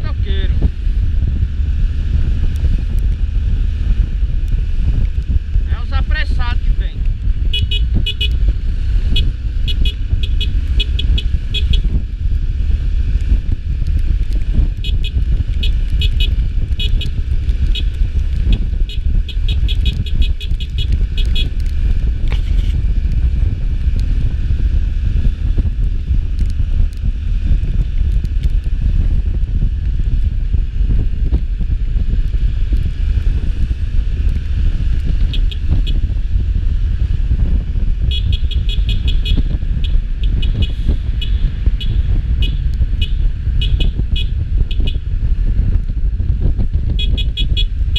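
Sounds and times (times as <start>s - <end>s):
passing vehicles rumbling: 0.0s - 47.9s.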